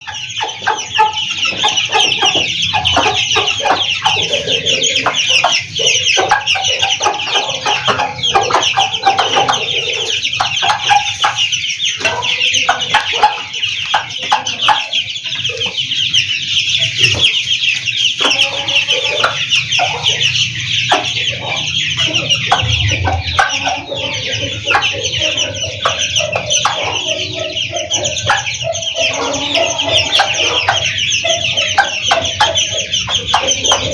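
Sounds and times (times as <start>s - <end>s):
chicks peeping: 0.0s - 33.9s
hen clucking: 0.0s - 33.9s.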